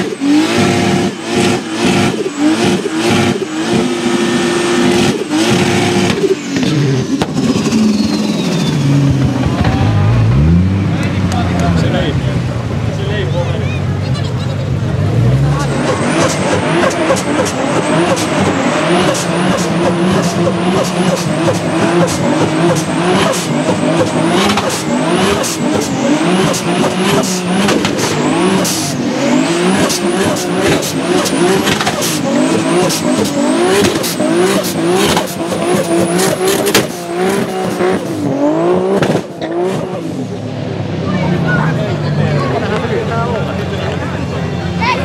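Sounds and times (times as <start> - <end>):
car engine revving high: 0.0 - 45.0.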